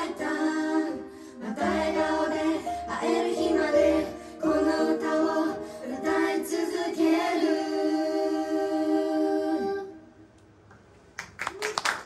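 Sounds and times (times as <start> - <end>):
group singing pop song: 0.0 - 10.0.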